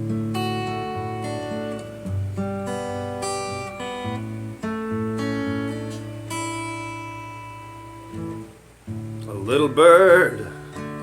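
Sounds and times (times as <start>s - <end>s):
acoustic guitar chords ringing: 0.0s - 11.0s.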